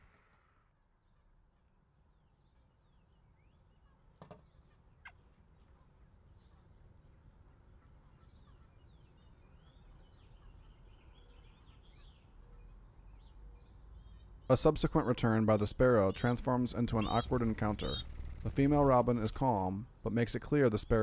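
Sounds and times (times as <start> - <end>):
distant birds chirping: 0.0 - 21.0.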